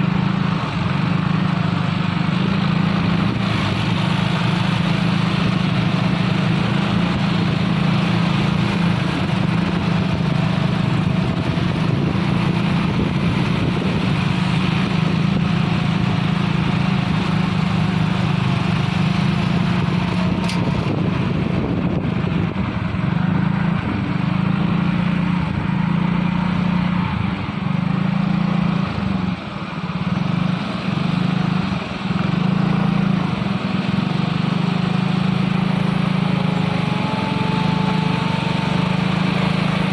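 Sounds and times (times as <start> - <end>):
truck engine running under load: 0.0 - 39.9.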